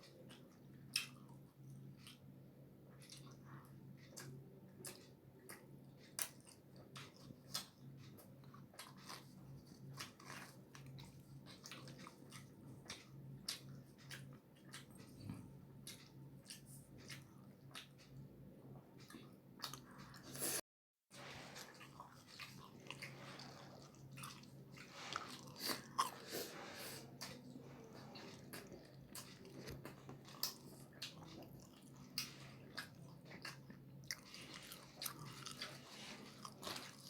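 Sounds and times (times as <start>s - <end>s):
close chewing and biting: 4.0s - 18.2s, 21.5s - 37.0s.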